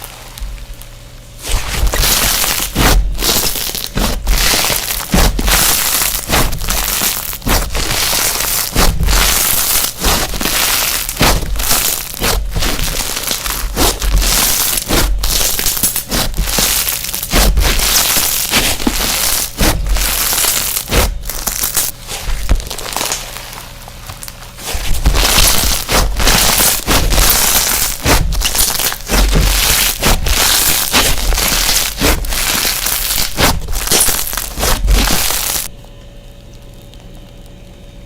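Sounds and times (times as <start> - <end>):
slime crunching by hand: 0.0 - 35.8.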